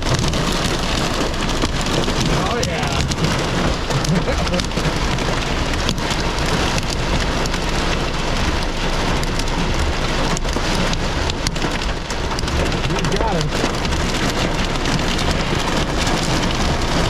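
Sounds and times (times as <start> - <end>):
rain and hail on car roof: 0.0 - 17.0.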